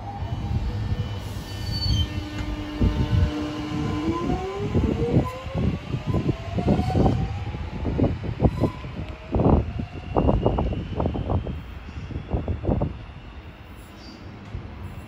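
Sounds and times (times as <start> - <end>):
electric train motor whine: 0.0 - 15.0.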